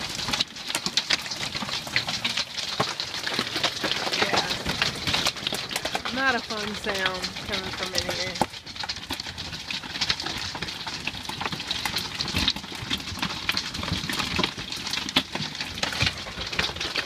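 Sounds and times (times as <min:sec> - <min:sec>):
hail pelting a metal roof: 0:00.0 - 0:17.0.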